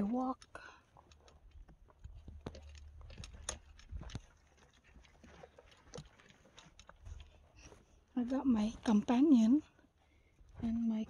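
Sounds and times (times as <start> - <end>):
footsteps and hooves on rock: 0.9 - 9.9.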